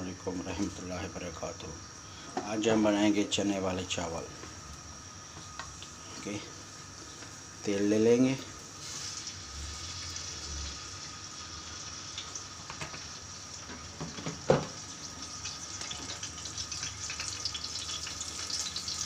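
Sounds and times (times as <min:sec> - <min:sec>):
oil hissing and crackling: 0:03.2 - 0:19.0.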